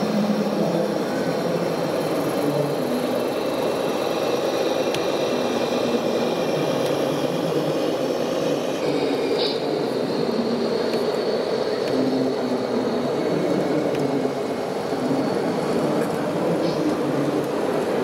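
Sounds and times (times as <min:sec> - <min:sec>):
busy hall crowd din: 0:00.0 - 0:18.0
model truck engine: 0:00.0 - 0:18.0.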